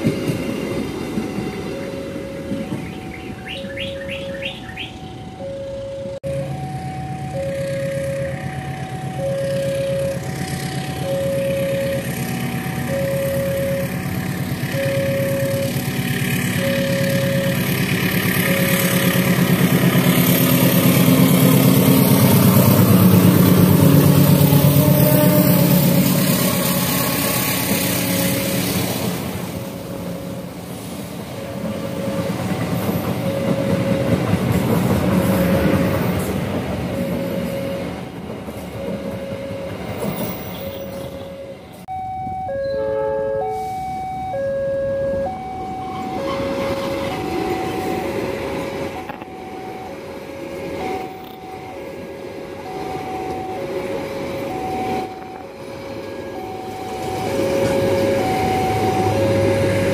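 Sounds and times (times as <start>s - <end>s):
level-crossing warning bell: 0.0s - 30.5s, 31.2s - 59.9s
train coaches rumbling past: 0.0s - 59.9s.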